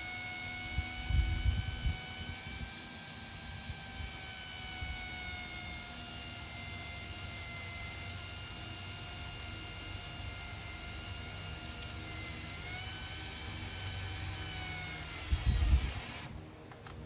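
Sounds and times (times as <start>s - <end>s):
electric drill whining: 0.0s - 17.0s.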